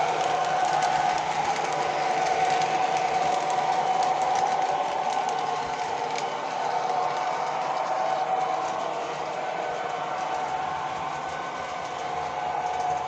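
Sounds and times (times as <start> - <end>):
constant whine: 0.0 - 13.0
train running: 0.0 - 13.0.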